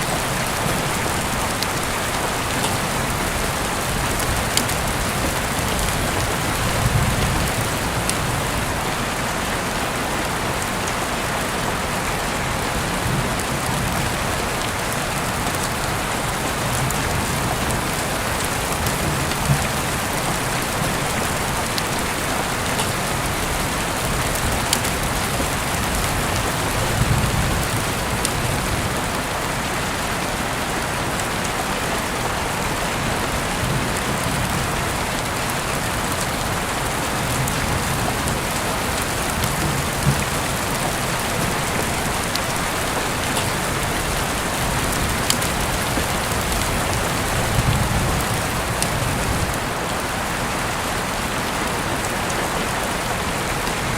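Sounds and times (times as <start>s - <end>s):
heavy rain hissing: 0.0s - 53.9s.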